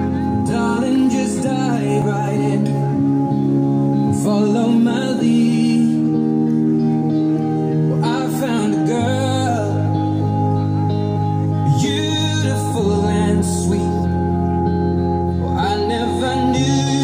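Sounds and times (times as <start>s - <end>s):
person singing: 0.0s - 7.0s, 7.7s - 10.5s, 11.5s - 17.0s
slow song with held chords: 0.0s - 17.0s.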